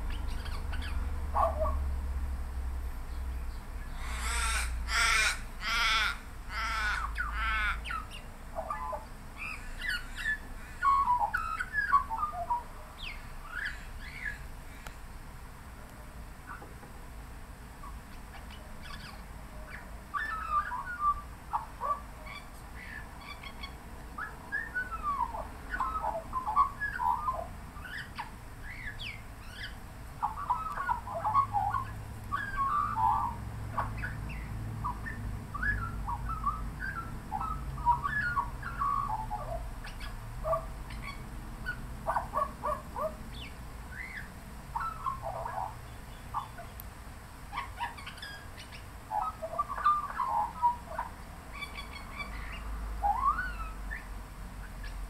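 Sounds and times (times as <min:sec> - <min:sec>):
magpie warbling song: 0:03.9 - 0:14.5, 0:17.8 - 0:46.8, 0:47.5 - 0:54.1.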